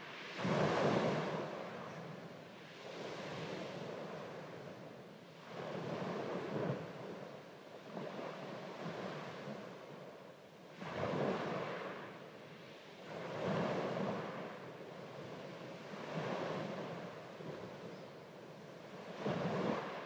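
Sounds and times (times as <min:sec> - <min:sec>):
small waves washing on shore: 0:00.0 - 0:20.0.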